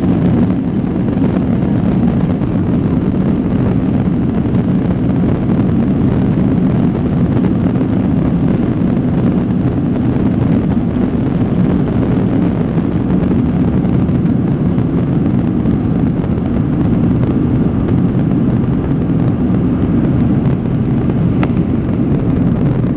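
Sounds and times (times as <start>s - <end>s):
airplane cabin jet rumble: 0.0s - 22.9s.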